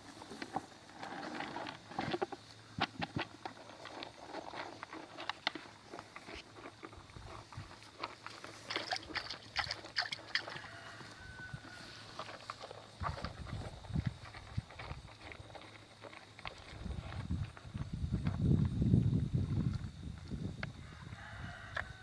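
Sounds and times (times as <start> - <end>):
cattle hooves walking: 0.0 - 18.7.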